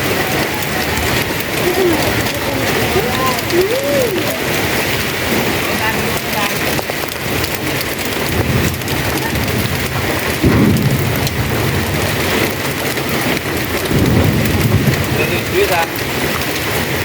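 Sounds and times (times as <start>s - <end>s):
deep low rumbles: 0.0s - 17.0s
heavy rain falling: 0.0s - 17.0s.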